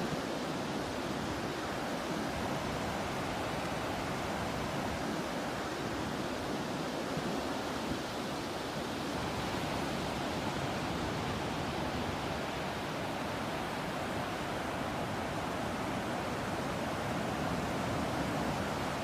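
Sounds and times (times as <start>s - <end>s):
ocean surf: 0.0s - 19.0s.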